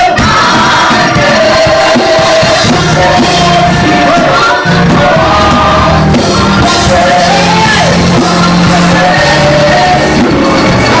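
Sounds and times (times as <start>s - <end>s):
person singing: 0.0s - 11.0s
steady bass line: 0.0s - 11.0s.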